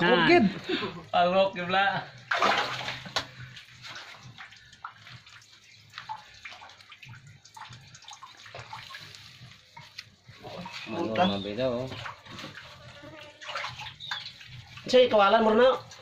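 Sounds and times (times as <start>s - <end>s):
bucket sloshing in water: 2.2s - 16.0s.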